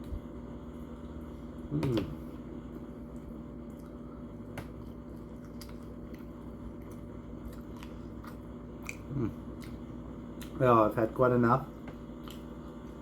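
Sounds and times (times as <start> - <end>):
steady low hum: 0.0 - 13.0
person chewing: 0.8 - 10.6, 11.7 - 13.0.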